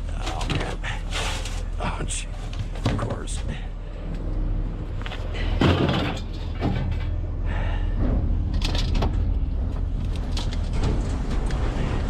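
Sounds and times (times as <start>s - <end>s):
steady low hum: 0.0s - 12.0s
scrap metal scraping and clanking: 0.1s - 3.6s, 5.0s - 12.0s.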